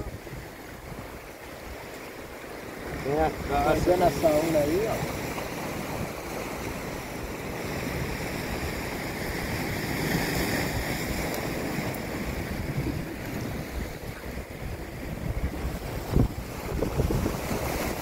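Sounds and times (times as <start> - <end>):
surf washing against rocks: 0.0 - 18.0
wind on the microphone: 0.0 - 18.0.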